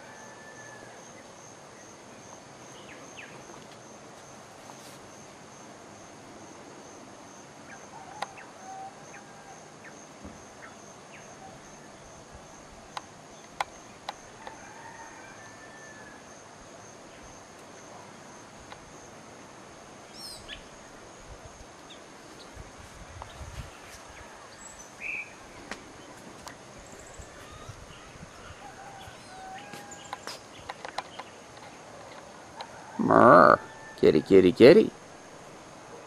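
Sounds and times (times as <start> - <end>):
high insect trill: 0.0 - 35.9.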